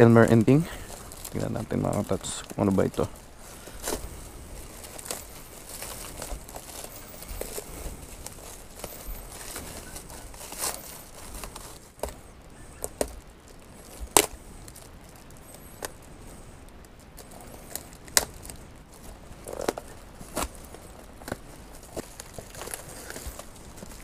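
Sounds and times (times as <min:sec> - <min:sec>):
plastic wrapping rustling and tearing: 0:00.0 - 0:24.0.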